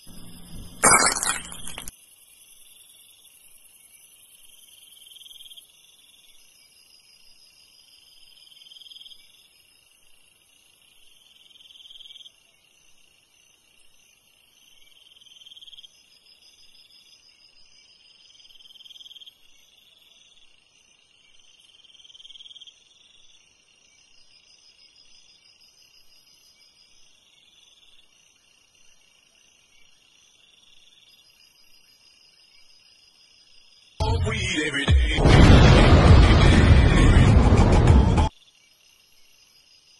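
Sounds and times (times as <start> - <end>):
insects trilling: 0.0 - 34.0, 38.3 - 39.9
lower insect call: 0.0 - 34.0, 38.3 - 39.9.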